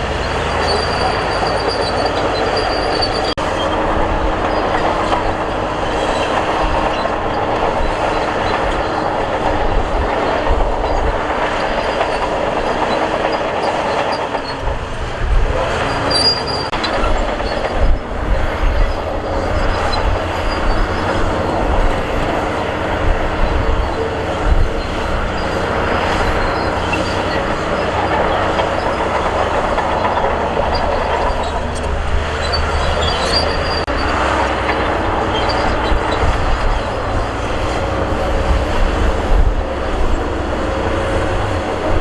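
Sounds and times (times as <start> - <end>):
diesel engine under load: 0.0 - 42.0
steel tracks clanking and squealing: 0.0 - 42.0.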